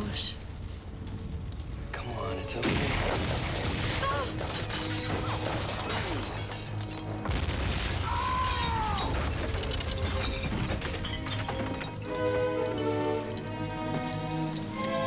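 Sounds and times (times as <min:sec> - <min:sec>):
booming explosions: 0:00.0 - 0:12.8
film music: 0:00.0 - 0:15.0
shattering debris: 0:02.5 - 0:15.0.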